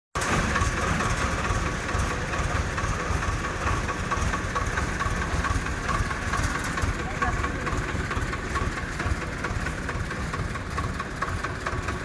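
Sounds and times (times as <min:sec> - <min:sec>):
diesel engine idling: 0:00.2 - 0:12.0.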